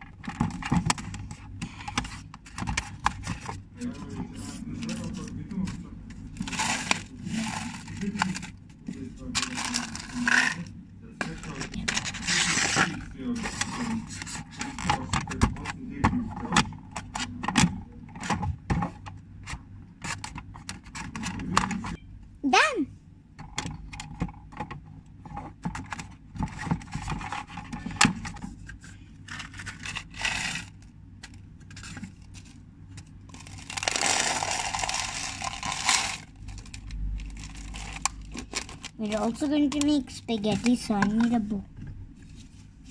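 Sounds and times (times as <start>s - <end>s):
objects rustling and scraping: 0.0s - 22.0s, 23.4s - 42.9s.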